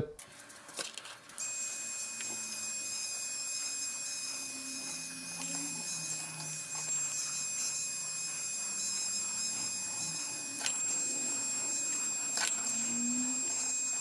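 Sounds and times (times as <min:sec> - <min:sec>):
pen motor whirring: 0:01.4 - 0:14.0.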